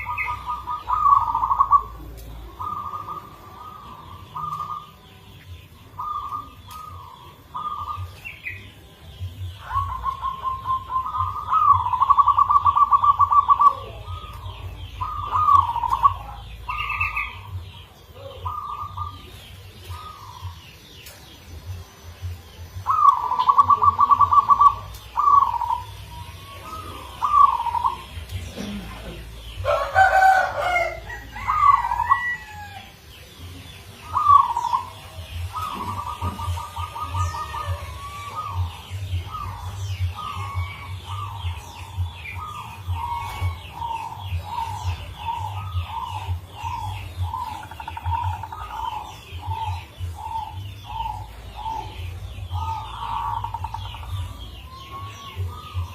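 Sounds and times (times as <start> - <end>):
dove cooing: 0.0 - 20.8, 22.8 - 55.9
birds chirping: 0.0 - 55.9.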